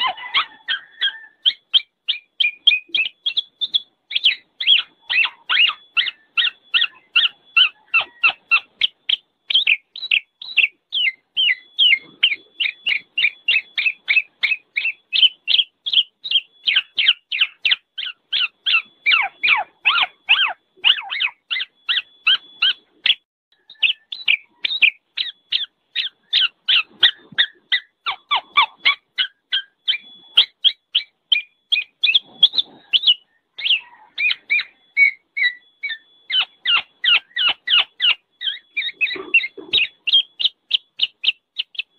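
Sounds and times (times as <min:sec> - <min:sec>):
bird calling sharp notes: 0:00.0 - 0:41.9.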